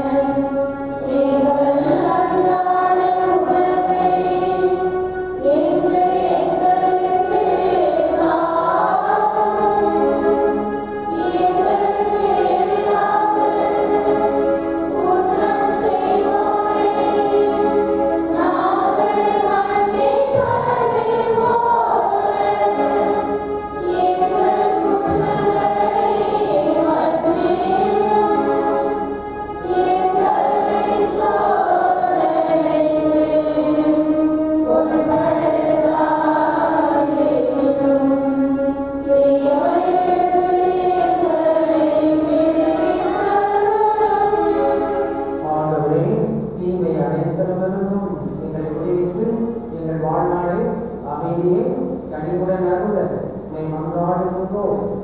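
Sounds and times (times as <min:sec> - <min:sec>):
church choir singing: 0:00.0 - 0:46.1.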